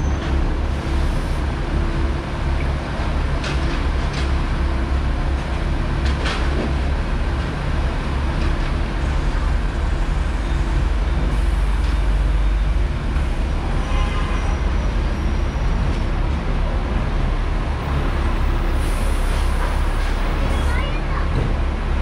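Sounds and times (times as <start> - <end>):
tram rumbling on track: 0.0 - 22.0.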